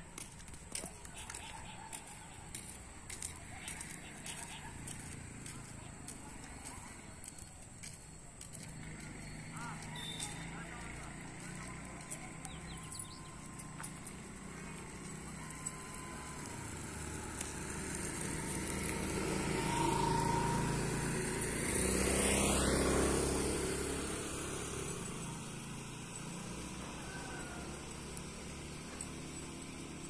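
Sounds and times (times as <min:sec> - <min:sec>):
traffic passing by: 0:00.0 - 0:30.0.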